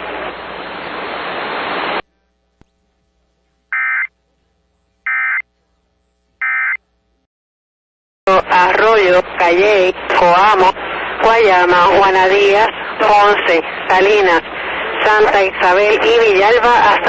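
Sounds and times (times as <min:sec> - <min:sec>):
noise hiss: 0:00.0 - 0:06.4, 0:08.3 - 0:17.0.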